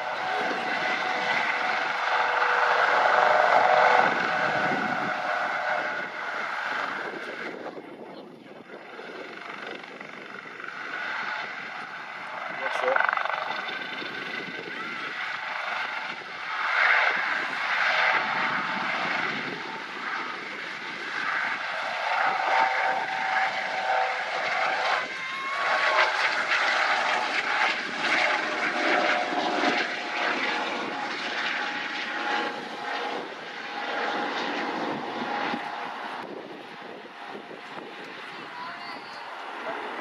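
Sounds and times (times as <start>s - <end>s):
helicopter lifting off: 0.0s - 40.0s.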